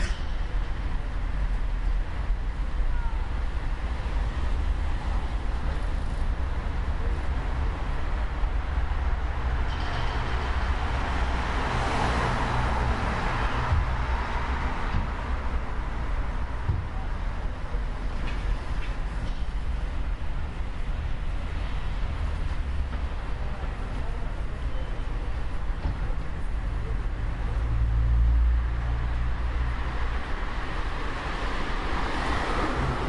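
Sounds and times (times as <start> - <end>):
low rumble of traffic: 0.0 - 33.0.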